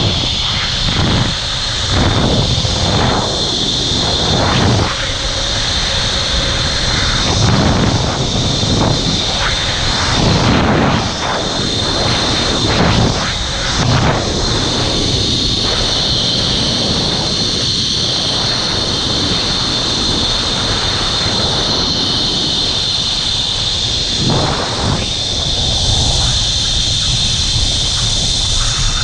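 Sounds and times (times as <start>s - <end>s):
pulleys whining on steel cable: 0.0s - 29.0s.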